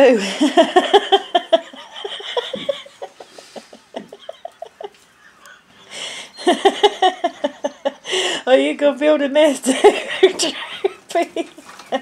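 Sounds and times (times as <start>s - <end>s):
woman laughing: 0.1s - 8.5s, 9.6s - 12.0s.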